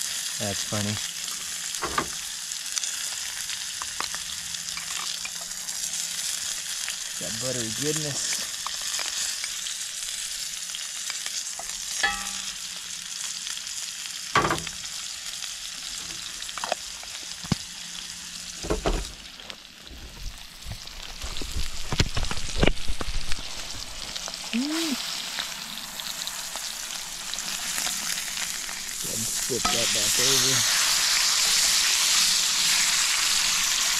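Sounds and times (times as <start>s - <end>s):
steak sizzling in a skillet: 0.0s - 33.9s.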